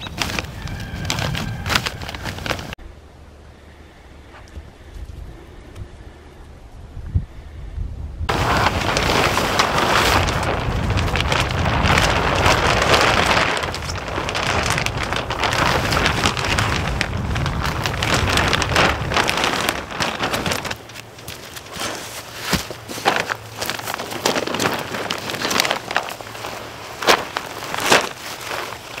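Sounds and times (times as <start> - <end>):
plastic sheeting crackling: 0.0 - 2.8, 8.3 - 29.0.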